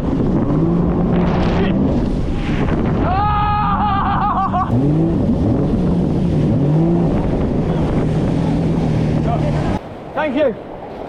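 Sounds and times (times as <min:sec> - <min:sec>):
jet ski engine running: 0:00.0 - 0:11.0
wind rush on microphone: 0:00.0 - 0:11.0.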